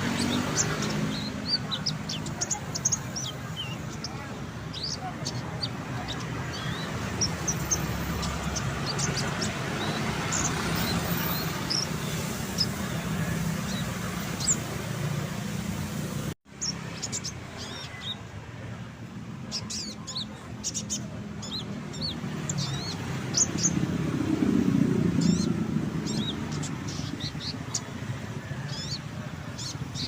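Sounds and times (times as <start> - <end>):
birds chirping and whistling: 0.0 - 15.1, 19.5 - 30.0.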